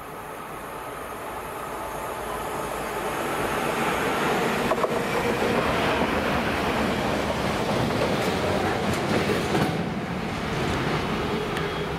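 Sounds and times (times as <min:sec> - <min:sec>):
freight train passing: 0:00.0 - 0:11.9.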